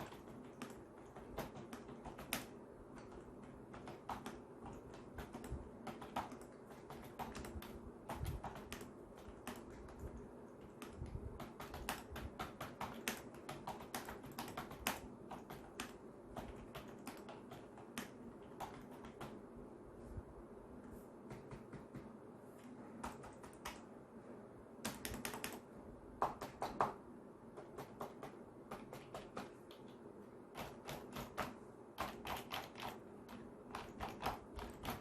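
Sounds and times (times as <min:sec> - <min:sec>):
computer keyboard typing: 0:00.0 - 0:19.4, 0:22.9 - 0:24.0, 0:24.8 - 0:35.0
steady low hum: 0:00.0 - 0:35.0.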